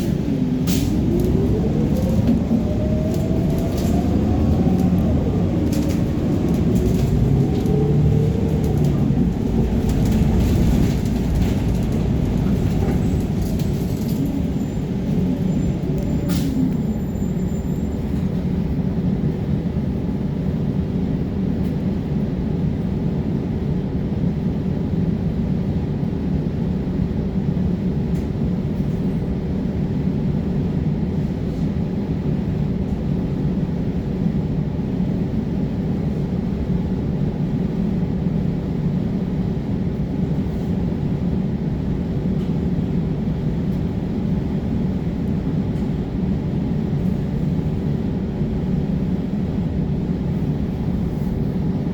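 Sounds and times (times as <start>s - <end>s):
bus engine drone: 0.0s - 51.9s.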